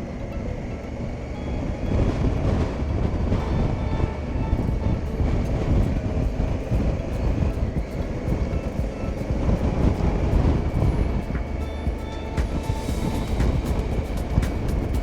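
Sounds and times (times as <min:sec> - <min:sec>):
faint music: 0:00.0 - 0:15.0
motorcycle engine: 0:00.0 - 0:15.0
wind and road noise: 0:00.0 - 0:15.0.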